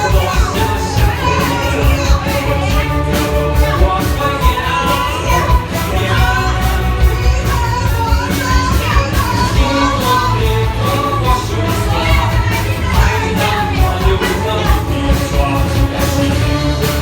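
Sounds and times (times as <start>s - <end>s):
amplified orchestra playing: 0.0s - 17.0s
person singing: 0.0s - 17.0s.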